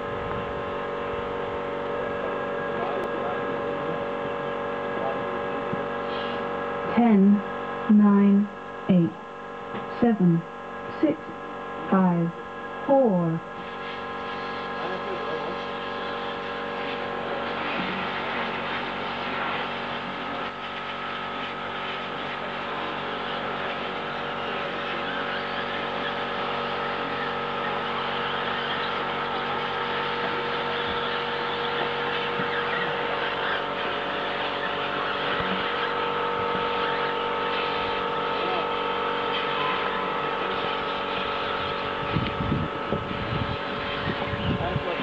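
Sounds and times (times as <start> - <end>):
electric motors whining: 0.0 - 45.0
steady electrical hum: 0.0 - 45.0.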